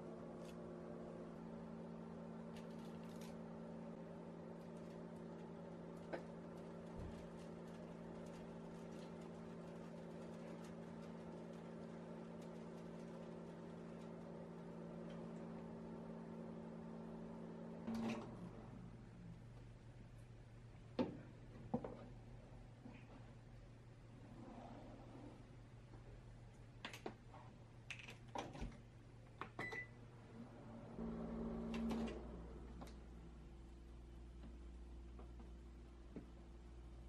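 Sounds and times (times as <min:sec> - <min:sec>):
appliance humming: 0:00.0 - 0:21.8, 0:28.7 - 0:37.0.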